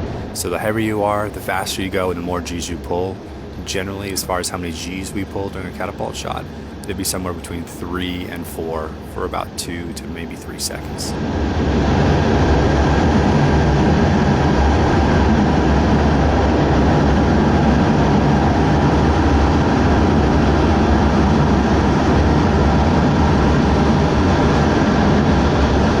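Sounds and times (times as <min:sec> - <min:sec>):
fighter jet engine rumble: 0:00.0 - 0:26.0.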